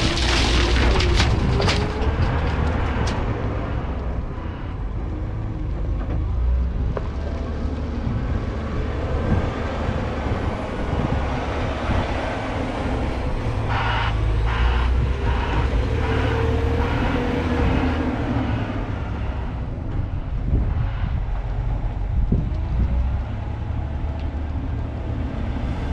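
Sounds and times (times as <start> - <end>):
diesel engine low rumble: 0.0 - 25.9.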